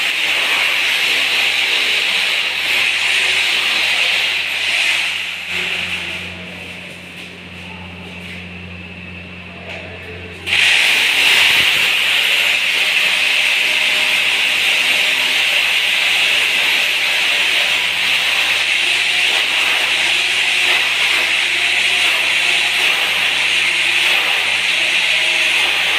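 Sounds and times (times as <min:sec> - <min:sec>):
pest-control tool hissing: 0:00.0 - 0:06.2, 0:10.5 - 0:25.9.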